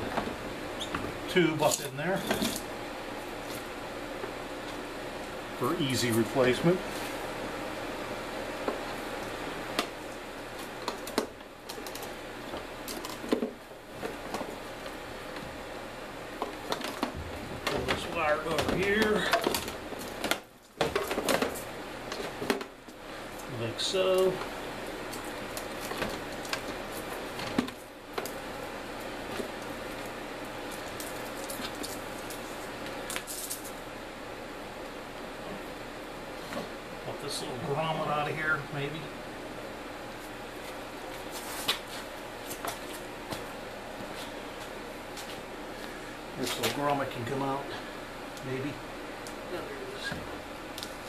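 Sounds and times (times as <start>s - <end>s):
steady background hum: 0.0s - 51.0s
steady background noise: 0.0s - 51.0s.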